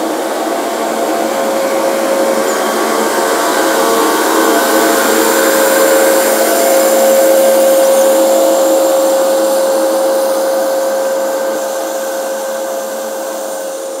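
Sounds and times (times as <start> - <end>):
boat diesel engines droning: 0.0 - 14.0
churning propeller wash: 0.0 - 14.0.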